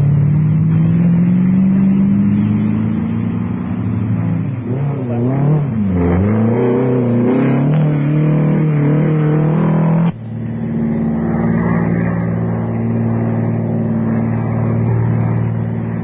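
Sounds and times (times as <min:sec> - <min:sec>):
car engine at steady high revs: 0:00.0 - 0:16.0
rally car engine revving: 0:00.0 - 0:16.0.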